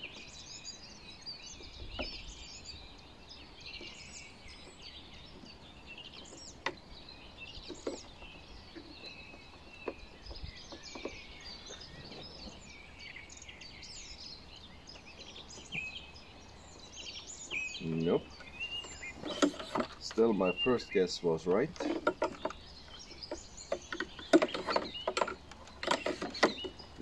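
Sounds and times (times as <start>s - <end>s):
songbirds chirping and singing: 0.0s - 27.0s.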